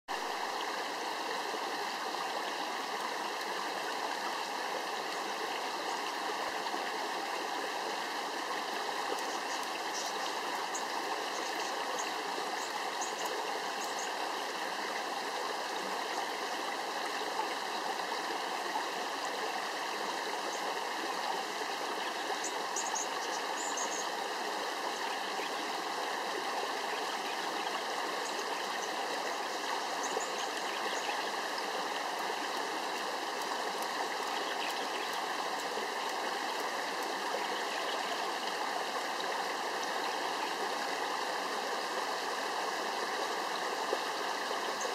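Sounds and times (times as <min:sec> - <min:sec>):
creek water babbling over rocks: 0:00.1 - 0:44.9.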